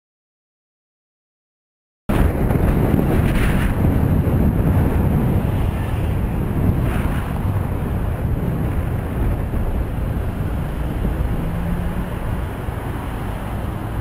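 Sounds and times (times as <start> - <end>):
road traffic rumble: 2.1 - 14.0
wind buffeting microphone: 2.1 - 14.0.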